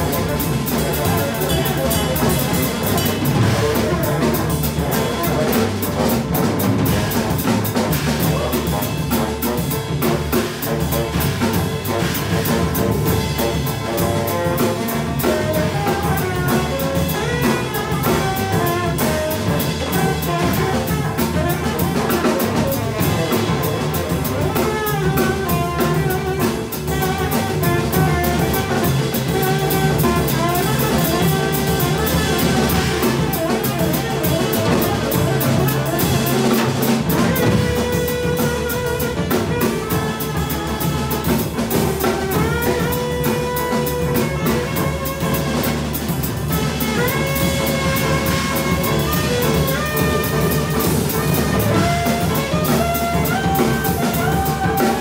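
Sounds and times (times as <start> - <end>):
double bass: 0.0 - 55.0
drum kit with cymbals: 0.0 - 55.0
piano: 0.0 - 55.0
saxophone melody: 0.0 - 55.0.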